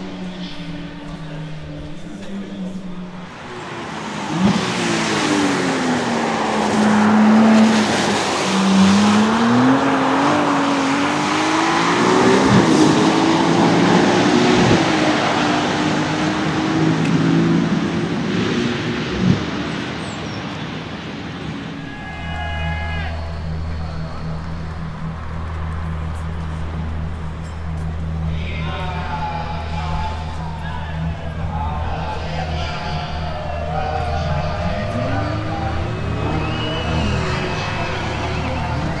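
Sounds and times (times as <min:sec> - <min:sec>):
car engine revving: 0:00.0 - 0:39.0
loud rushing noise: 0:00.0 - 0:39.0
sharp exhaust cracks: 0:00.0 - 0:39.0.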